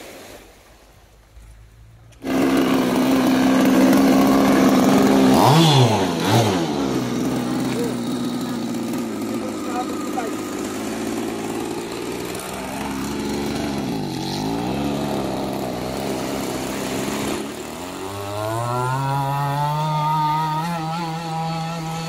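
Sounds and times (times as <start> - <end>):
small two-stroke engine revving: 2.1 - 22.0.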